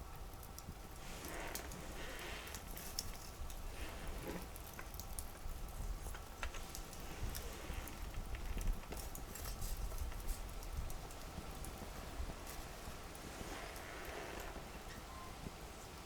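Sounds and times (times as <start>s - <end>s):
campfire crackling: 0.0s - 16.0s
fire pops and snaps: 0.3s - 13.9s.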